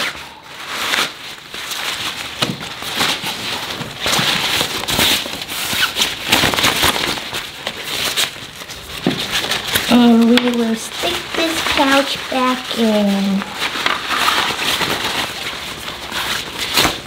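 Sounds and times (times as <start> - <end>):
fabric bag rustling and crinkling: 0.0 - 17.0.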